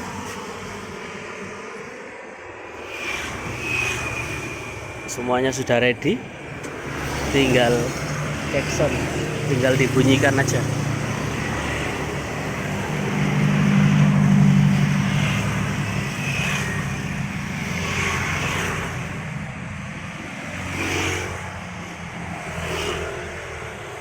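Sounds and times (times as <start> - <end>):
engine hum: 0.0 - 24.0
vehicles passing: 0.0 - 24.0.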